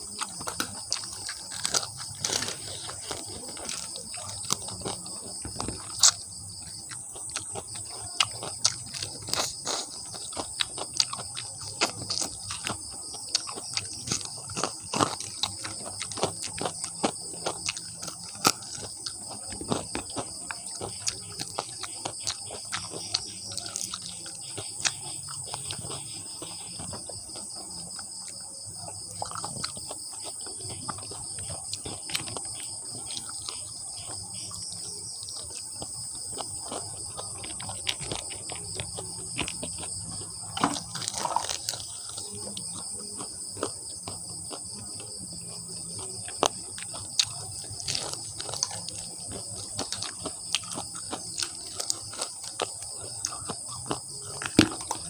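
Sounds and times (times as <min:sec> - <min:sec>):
crunching and chewing: 0:00.0 - 0:55.0
insect chirring: 0:00.0 - 0:55.0.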